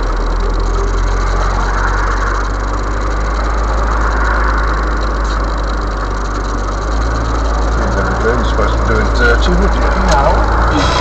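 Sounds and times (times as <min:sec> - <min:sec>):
car cabin engine and road noise: 0:00.0 - 0:11.0.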